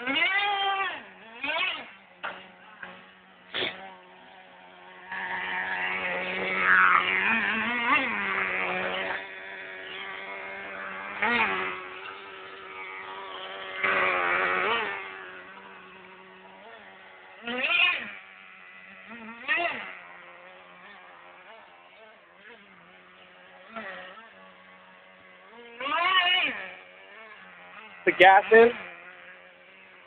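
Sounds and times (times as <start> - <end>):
small engine buzzing and revving: 0.0 - 30.0.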